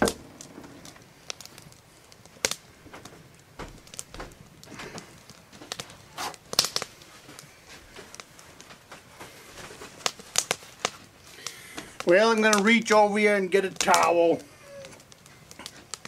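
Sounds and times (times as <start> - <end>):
rustles: 0.0 - 13.3.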